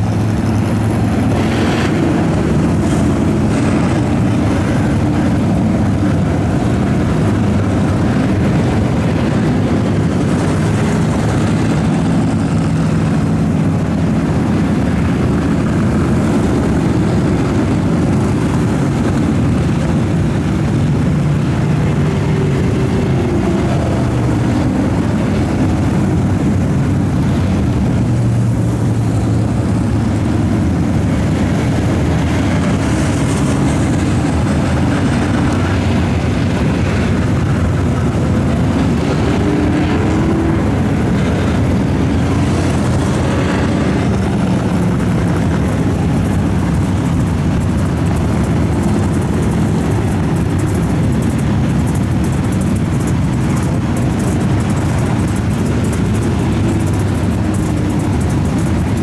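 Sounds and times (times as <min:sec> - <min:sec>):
vehicle engines droning: 0:00.0 - 0:59.0.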